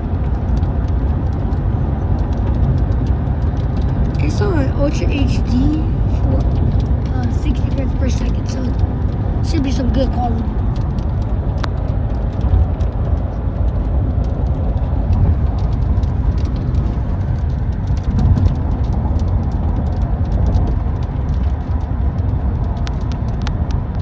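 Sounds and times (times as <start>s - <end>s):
heavy rain on a car: 0.0s - 24.0s
drops ticking: 0.1s - 23.3s.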